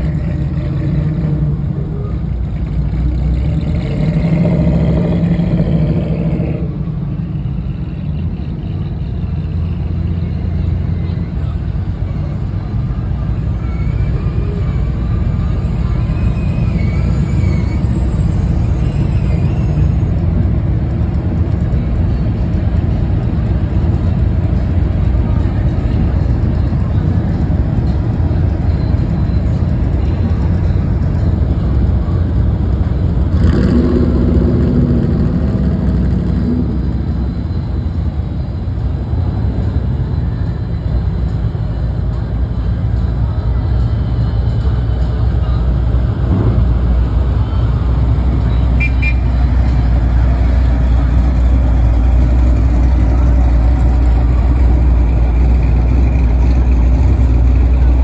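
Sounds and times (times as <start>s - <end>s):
vehicle engines rumbling past: 0.0s - 58.0s.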